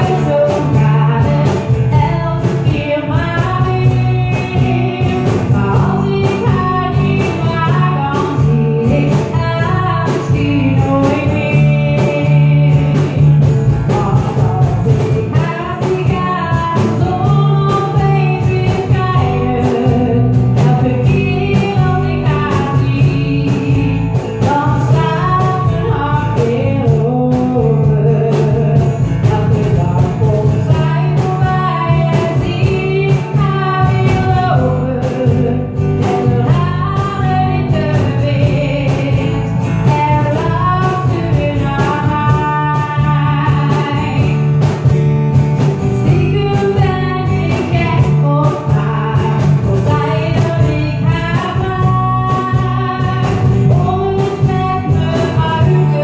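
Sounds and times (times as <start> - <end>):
guitar over steady beat: 0.0 - 56.0
woman singing pop song: 0.0 - 56.0.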